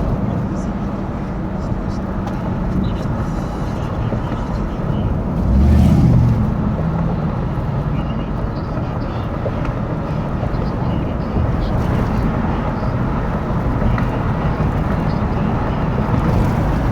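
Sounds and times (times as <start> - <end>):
road rumble: 0.0 - 16.9
vehicle engine: 0.0 - 16.9.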